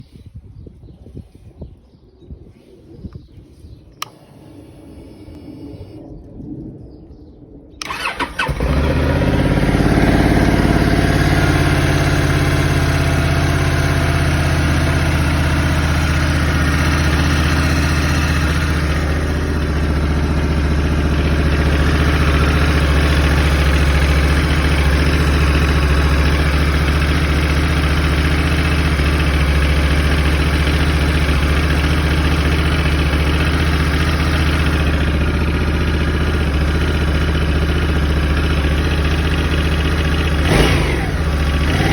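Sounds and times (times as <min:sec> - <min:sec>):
engine rattle: 0:07.8 - 0:41.9
motorcycle engine idling: 0:07.8 - 0:41.9.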